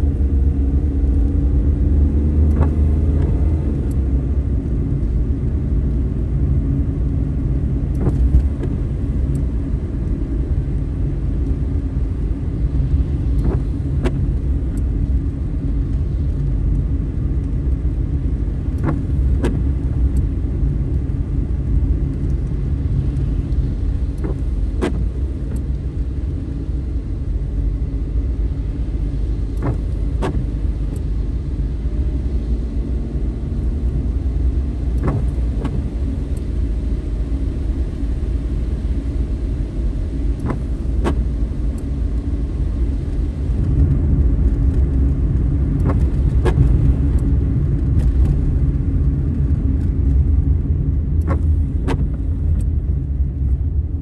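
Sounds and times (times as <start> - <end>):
tyres and engine rumble: 0.0 - 54.0
windscreen wipers clicking: 1.1 - 54.0.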